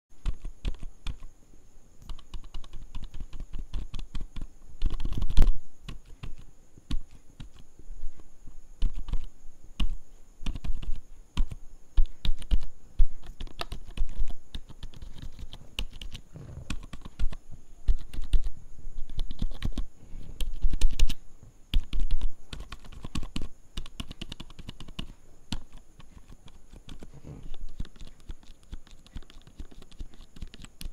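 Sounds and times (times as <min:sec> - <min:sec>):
keyboard keys tapping: 0:00.2 - 0:01.3, 0:02.0 - 0:30.9.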